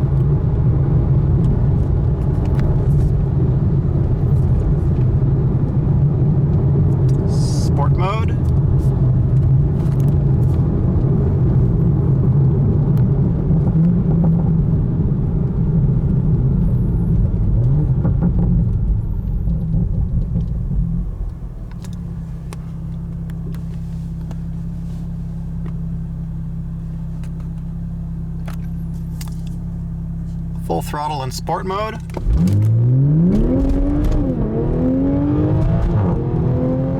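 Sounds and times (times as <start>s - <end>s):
car engine rumbling: 0.0s - 36.9s.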